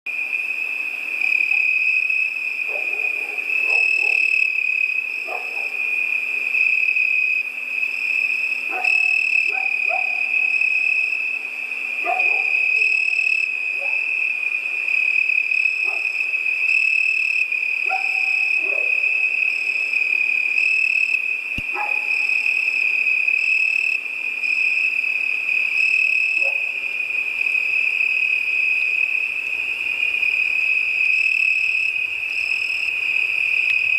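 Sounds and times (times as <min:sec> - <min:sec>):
crickets trilling: 0:00.1 - 0:33.9
pulsing insect calls: 0:00.1 - 0:33.9.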